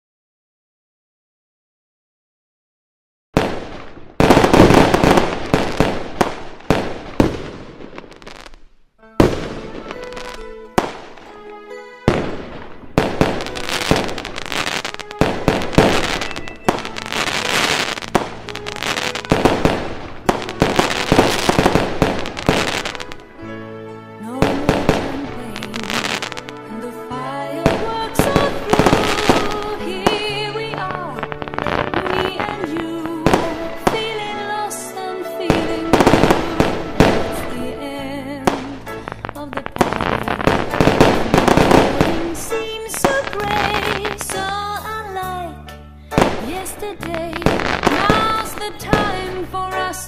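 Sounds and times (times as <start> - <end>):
fireworks bangs with crackling: 3.4 - 11.3, 12.1 - 23.2, 24.4 - 26.5, 27.6 - 34.4, 35.5 - 44.6, 46.1 - 49.5
music: 4.2 - 7.0, 8.2 - 50.0.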